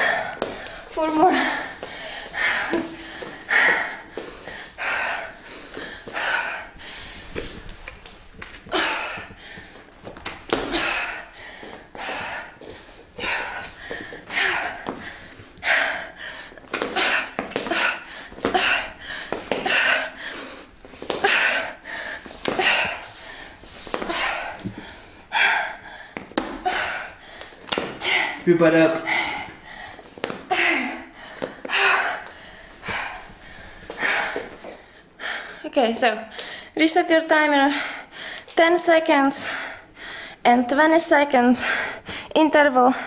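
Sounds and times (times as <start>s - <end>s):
woman breathing hard: 0.0s - 7.8s, 8.6s - 36.8s, 37.6s - 38.6s, 39.3s - 40.5s, 41.5s - 43.0s.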